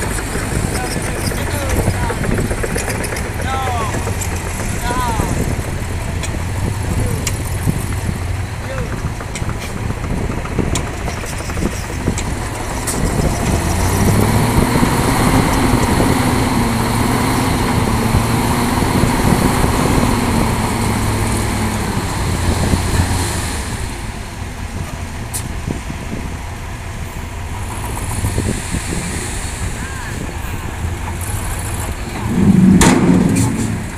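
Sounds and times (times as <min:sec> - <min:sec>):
diesel engine revving: 0:00.0 - 0:33.9.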